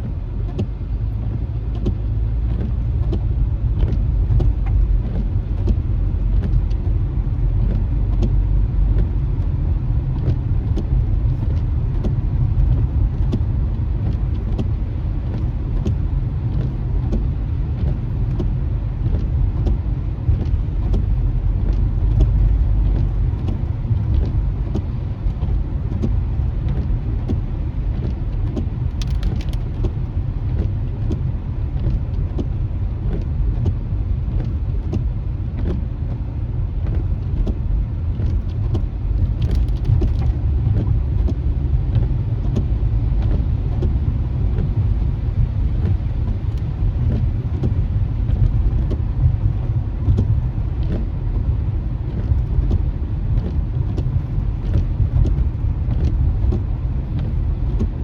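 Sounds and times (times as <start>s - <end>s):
car driving on wet pavement: 0.0s - 58.0s
raindrops ticking on windshield: 0.0s - 58.0s.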